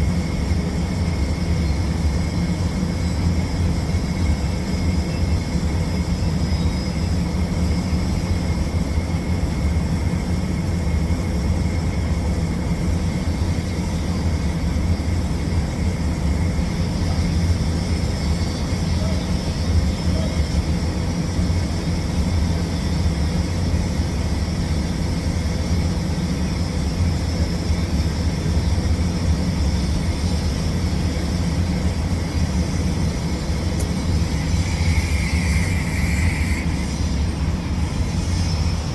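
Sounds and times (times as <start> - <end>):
low machine drone: 0.0 - 38.9.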